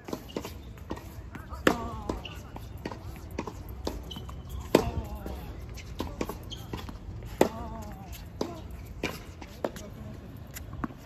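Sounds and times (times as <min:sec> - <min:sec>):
ball bouncing: 0:00.0 - 0:09.8.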